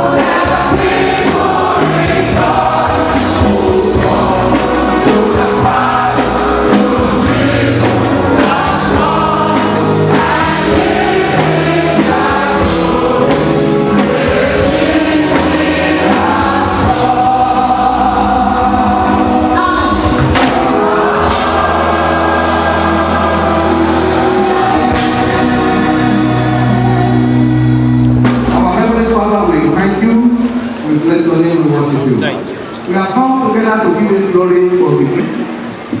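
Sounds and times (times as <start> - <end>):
gospel choir singing: 0.0 - 32.1
full band accompaniment: 0.0 - 36.0.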